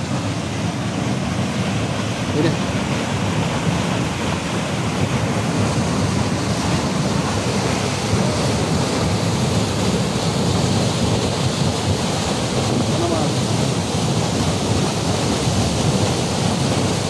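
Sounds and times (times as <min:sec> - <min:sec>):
whitewater rushing through rock chute: 0:00.0 - 0:17.0.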